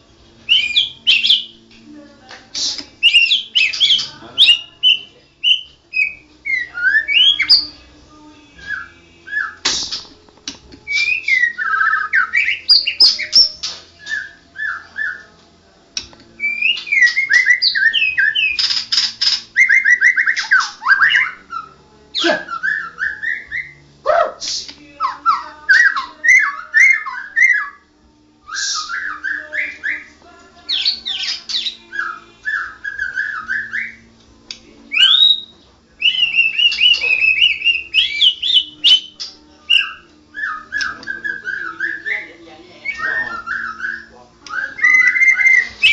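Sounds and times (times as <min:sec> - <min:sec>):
songbird singing whistles and trills: 0:00.4 - 0:01.8, 0:02.6 - 0:10.1, 0:10.8 - 0:15.4, 0:16.0 - 0:45.9.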